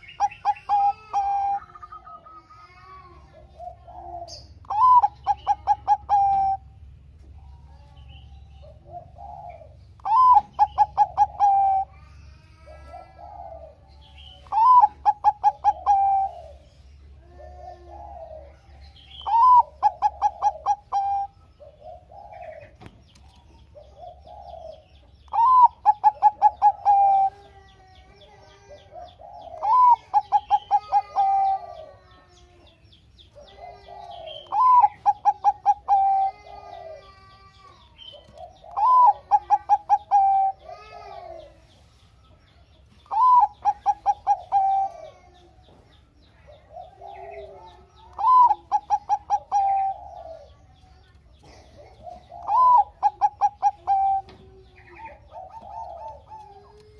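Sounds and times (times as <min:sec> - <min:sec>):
dove cooing song: 0:00.0 - 0:56.9
soft low coos: 0:07.3 - 0:41.8, 0:43.1 - 0:56.9.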